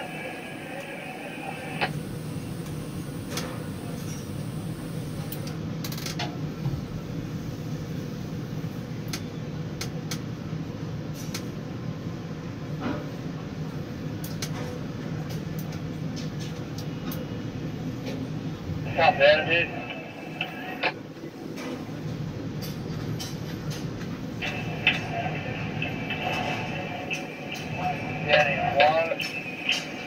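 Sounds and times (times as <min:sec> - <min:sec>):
low machinery hum: 0:00.0 - 0:05.8, 0:06.5 - 0:30.0.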